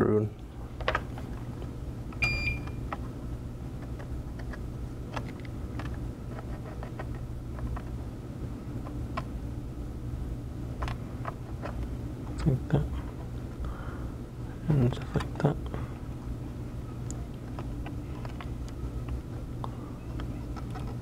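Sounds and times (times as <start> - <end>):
low equipment hum: 0.0 - 21.0.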